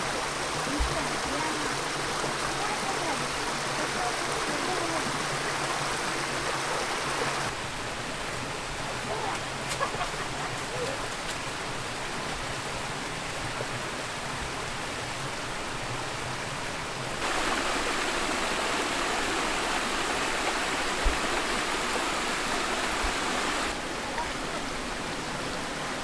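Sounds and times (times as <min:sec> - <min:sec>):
stream running over rocks: 0:00.0 - 0:26.0
water cascading over weir: 0:00.0 - 0:26.0.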